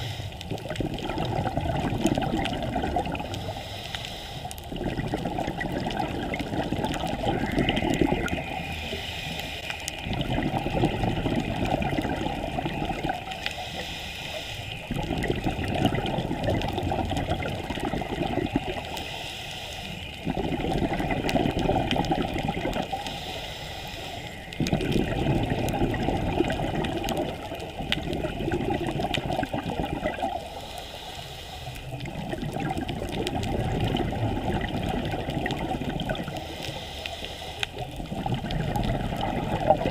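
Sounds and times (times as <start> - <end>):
underwater regulator bubbles gurgling: 0.0 - 39.9.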